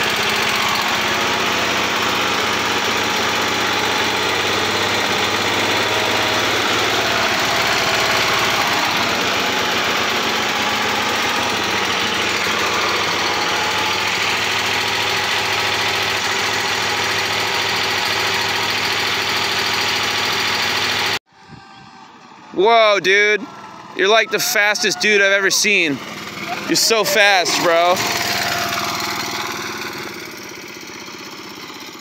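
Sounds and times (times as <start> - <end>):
single-cylinder engine running: 0.0 - 21.2, 22.5 - 32.0.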